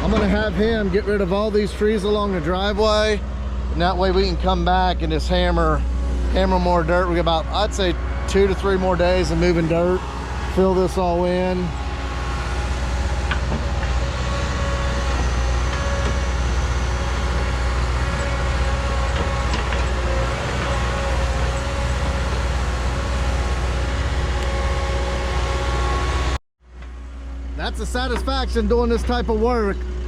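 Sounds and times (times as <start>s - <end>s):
heavy diesel engine rumbling: 0.0s - 30.0s.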